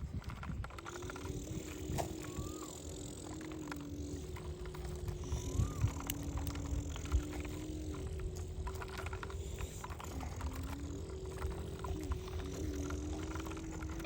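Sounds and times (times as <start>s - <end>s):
gears clicking and rattling: 0.0s - 14.0s
small electric motors whining: 0.0s - 14.0s.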